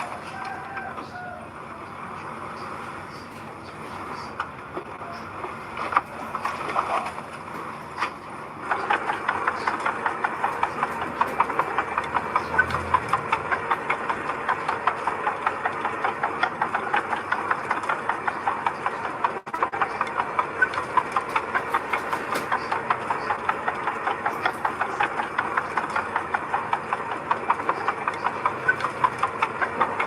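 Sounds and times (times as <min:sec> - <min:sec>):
diesel engine running: 0:00.0 - 0:30.0
rapid clattering rattle: 0:03.0 - 0:30.0.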